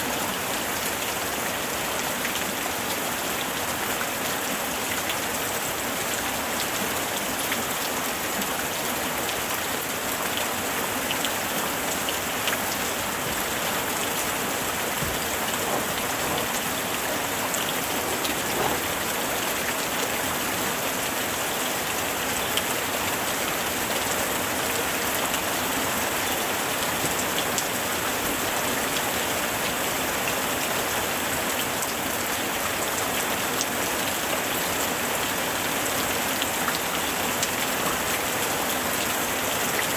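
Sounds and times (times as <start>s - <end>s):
raindrops pattering on a surface: 0.0s - 39.9s
steady rain hiss: 0.0s - 39.9s.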